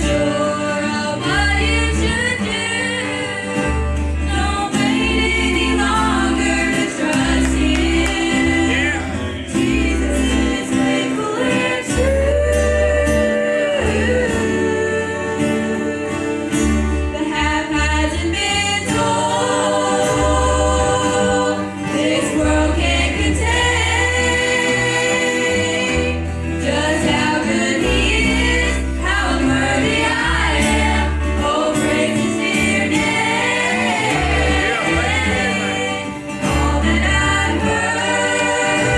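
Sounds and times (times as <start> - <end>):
group singing gospel: 0.0 - 38.9
instrumental accompaniment: 0.0 - 38.9
steady bass line: 0.0 - 38.9.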